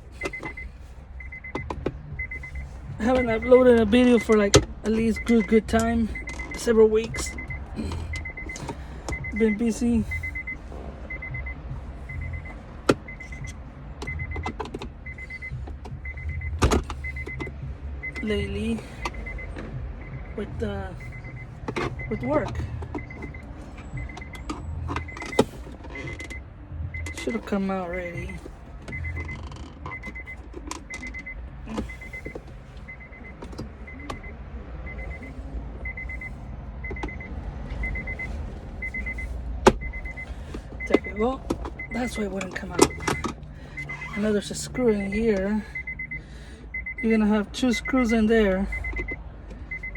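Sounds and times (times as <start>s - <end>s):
car warning chime beeping: 0.0s - 49.9s
steady low rumble: 0.0s - 49.9s.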